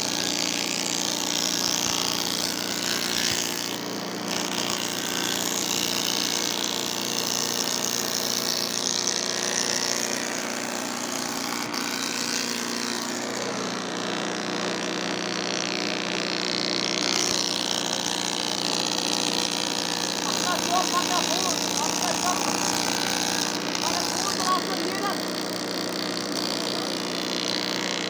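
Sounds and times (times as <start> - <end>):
wood cutting hiss: 0.0 - 14.8, 15.8 - 28.0
woodworking machine drone: 0.0 - 28.0.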